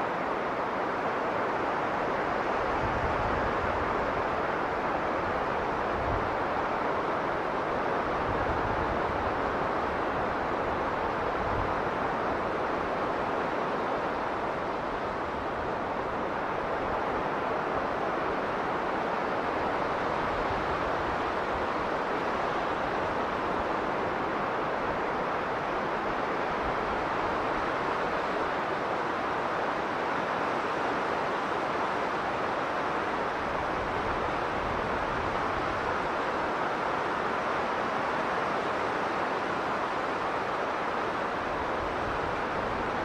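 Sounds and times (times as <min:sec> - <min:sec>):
strong blizzard wind: 0:00.0 - 0:43.0.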